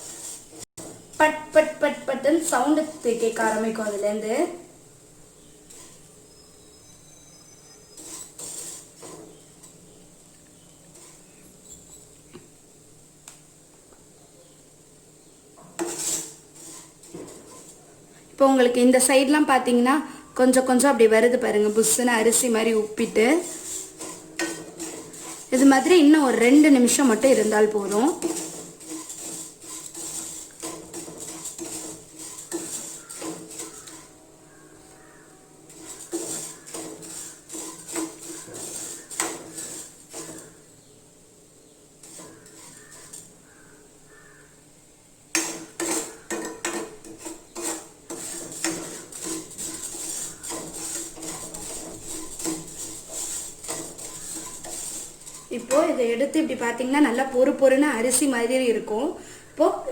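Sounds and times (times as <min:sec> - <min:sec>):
utensil scraping a pan: 0:00.0 - 0:12.2, 0:15.6 - 0:19.8, 0:20.6 - 0:40.8, 0:42.0 - 0:44.4, 0:45.3 - 0:58.7.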